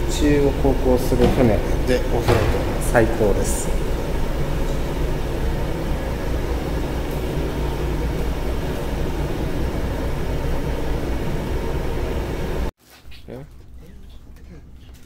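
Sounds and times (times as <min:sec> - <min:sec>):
ferry engine drone: 0:00.0 - 0:12.7.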